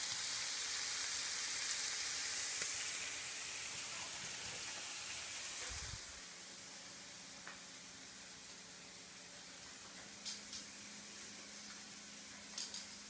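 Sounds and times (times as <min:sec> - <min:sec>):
scallops sizzling in a frying pan: 0:00.0 - 0:13.0.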